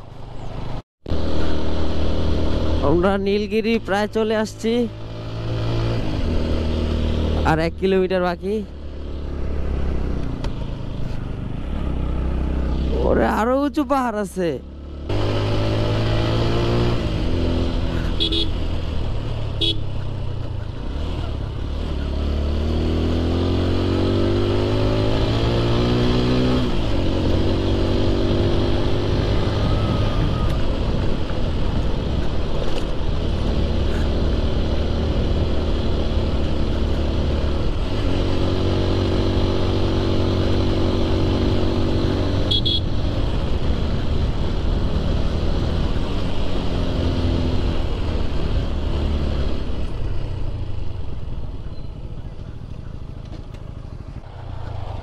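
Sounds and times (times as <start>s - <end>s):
motorcycle engine accelerating: 0.4s - 13.5s, 14.5s - 55.0s.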